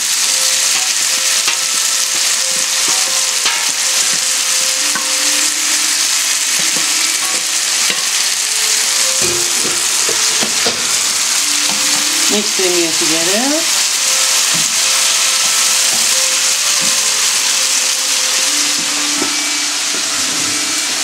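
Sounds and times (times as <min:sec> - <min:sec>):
food sizzling in frying pan: 0:00.0 - 0:21.0.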